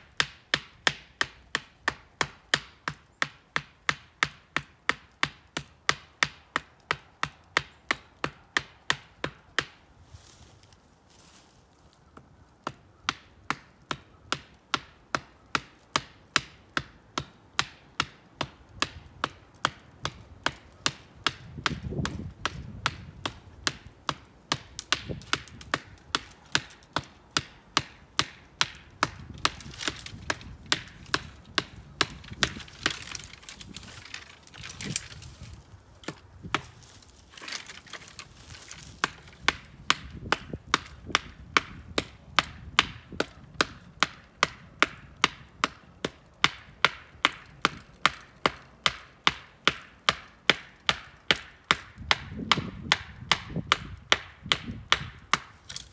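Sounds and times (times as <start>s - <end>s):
axe chopping wood: 0.1s - 9.8s, 12.2s - 55.9s.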